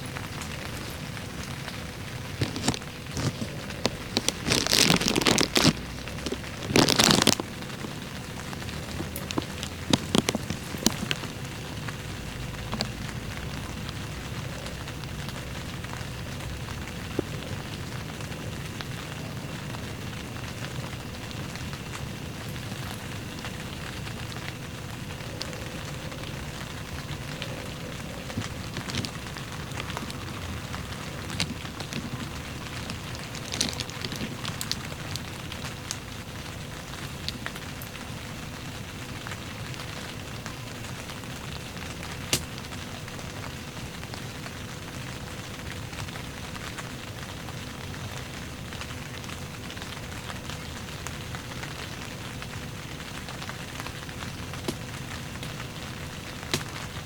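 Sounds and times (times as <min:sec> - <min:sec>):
rain drop taps: 0:00.0 - 0:38.2, 0:39.2 - 0:44.5, 0:51.6 - 0:57.0
heavy rain hissing: 0:00.0 - 0:46.3.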